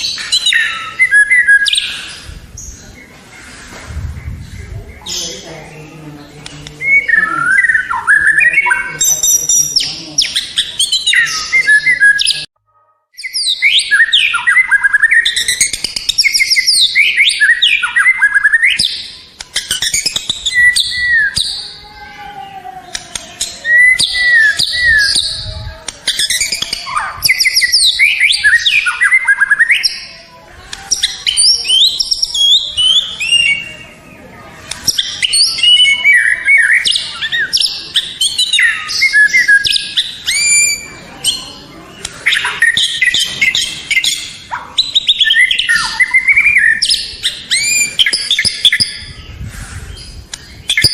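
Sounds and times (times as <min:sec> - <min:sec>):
bird singing whistles and trills: 0:00.0 - 0:02.8, 0:06.8 - 0:12.5, 0:13.2 - 0:21.8, 0:23.4 - 0:30.1, 0:30.9 - 0:34.2, 0:34.8 - 0:50.9.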